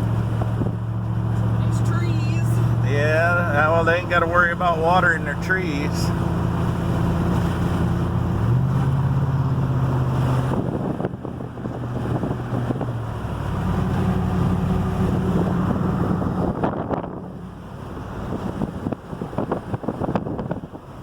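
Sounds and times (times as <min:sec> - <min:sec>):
road and wind noise: 0:00.0 - 0:21.0
vehicle engine hum: 0:00.0 - 0:21.0.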